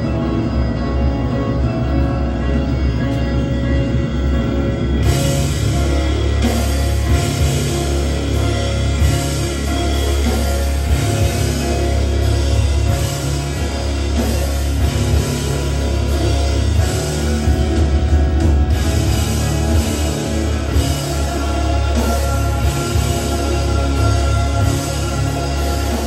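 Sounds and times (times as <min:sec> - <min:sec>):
loud rock music: 0:00.0 - 0:26.0.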